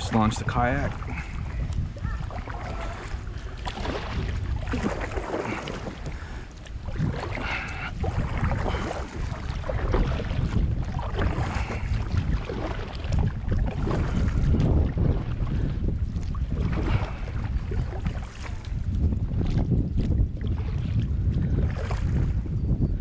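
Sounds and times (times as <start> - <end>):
water splashing against kayak: 0.0 - 22.8
wind rumbling on microphone: 0.0 - 23.0.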